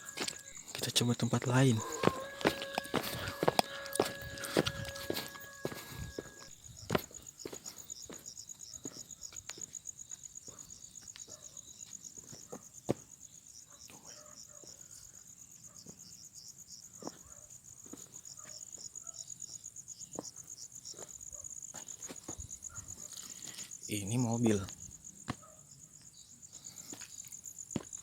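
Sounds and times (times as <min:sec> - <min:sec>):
crickets chirping: 0:00.0 - 0:28.0
slower pulsing insect chirp: 0:00.0 - 0:28.0.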